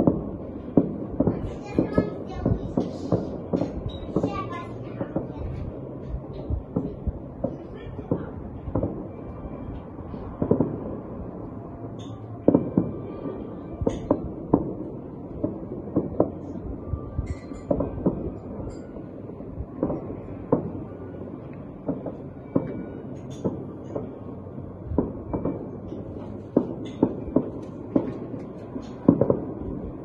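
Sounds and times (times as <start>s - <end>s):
distant fireworks bangs: 0.0s - 30.0s
steady background hum: 0.0s - 30.0s.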